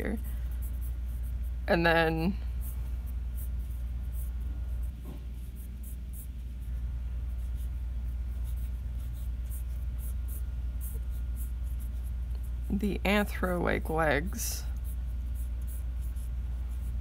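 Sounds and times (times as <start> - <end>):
pencil scratching on paper: 0.0 - 17.0
steady low hum: 0.0 - 17.0.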